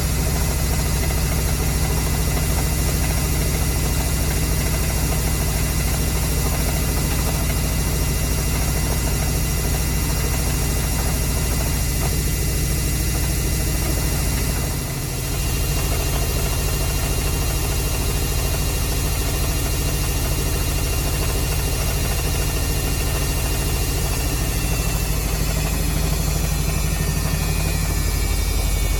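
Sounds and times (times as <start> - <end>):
washing machine spinning: 0.0 - 28.9.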